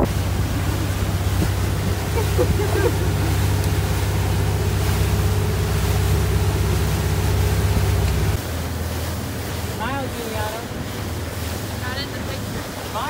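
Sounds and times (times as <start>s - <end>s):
motorboat engine humming: 0.0s - 13.0s
water rushing: 0.0s - 13.0s.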